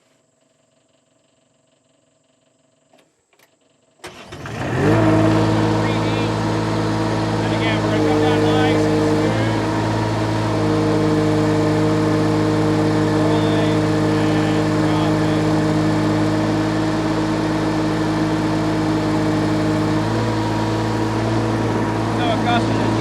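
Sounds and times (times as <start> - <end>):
small diesel engine running: 4.0 - 23.0.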